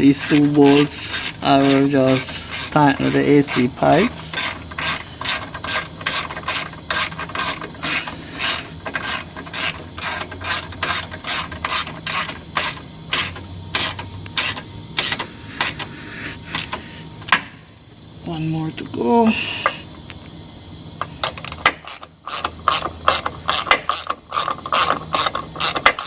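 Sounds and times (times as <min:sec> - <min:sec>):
ratchet wrench clicking: 0:00.0 - 0:17.4, 0:21.2 - 0:26.0.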